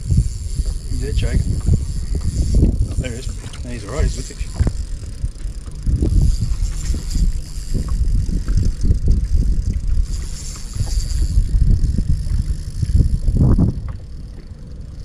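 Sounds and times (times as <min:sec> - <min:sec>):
fishing reel whirring: 0:00.0 - 0:15.0
water slapping boat hull: 0:00.0 - 0:15.0
wind buffeting microphone: 0:00.0 - 0:15.0.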